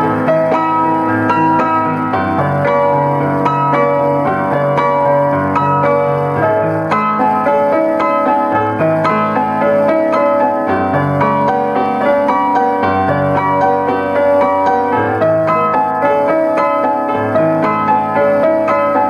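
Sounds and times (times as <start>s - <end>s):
piano piece: 0.0s - 19.0s.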